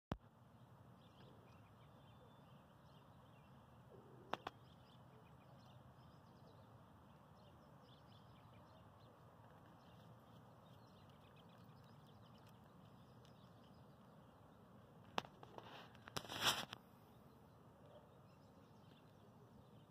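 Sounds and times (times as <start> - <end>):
faint outdoor ambience: 0.1 - 19.9.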